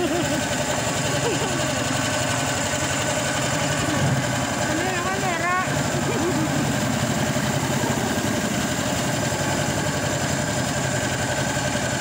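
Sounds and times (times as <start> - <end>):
small boat motor running: 0.0 - 12.0.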